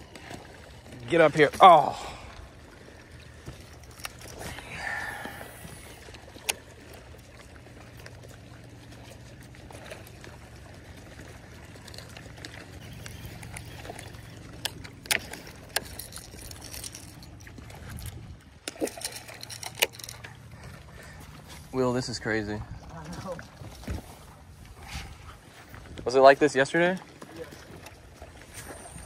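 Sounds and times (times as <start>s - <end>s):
water lapping against boat hull: 0.0s - 29.0s.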